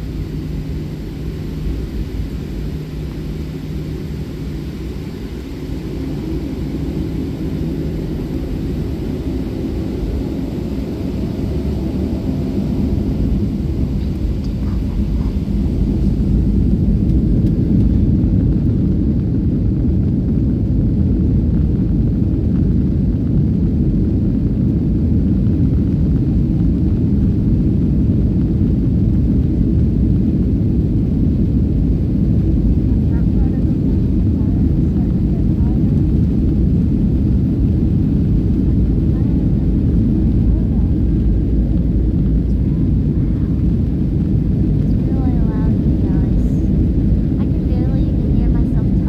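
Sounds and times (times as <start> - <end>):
wheels rumbling on runway: 0.0 - 49.0.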